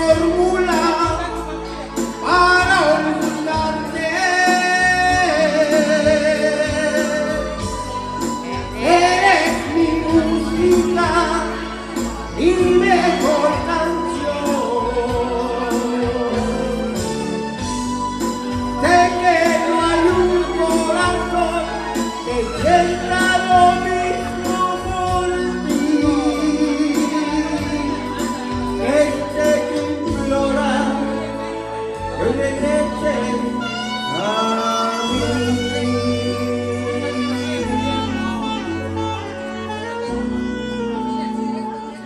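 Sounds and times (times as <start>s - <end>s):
love song singing: 0.0s - 42.0s.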